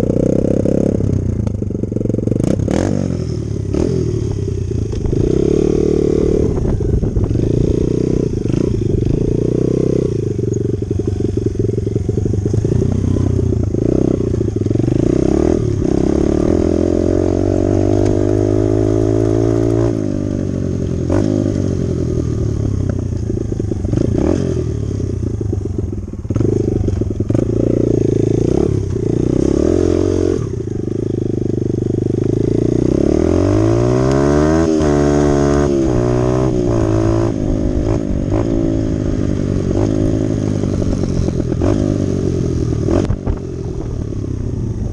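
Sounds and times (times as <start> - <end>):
dirt bike engine revving: 2.0 - 43.9.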